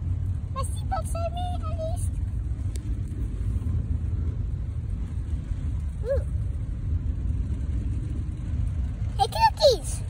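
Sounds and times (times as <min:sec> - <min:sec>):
road and engine rumble: 0:00.0 - 0:10.0.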